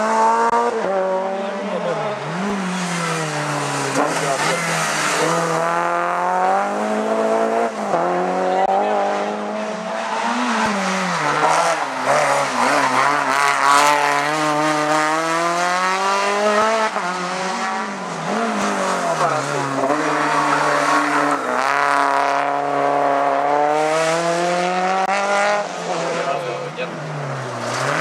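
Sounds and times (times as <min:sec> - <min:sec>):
race car engines revving: 0:00.0 - 0:28.0.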